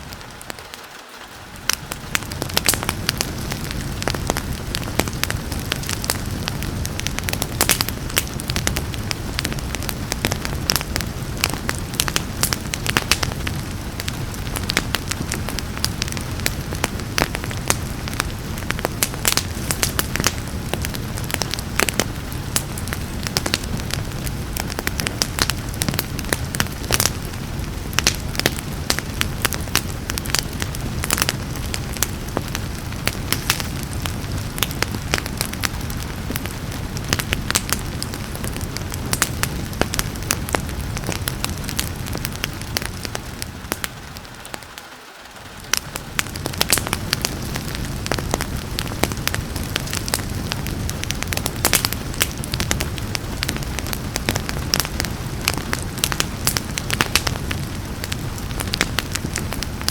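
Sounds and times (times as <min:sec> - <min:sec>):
rain: 0:00.0 - 0:59.9
wood fire crackling and popping: 0:00.0 - 0:59.9.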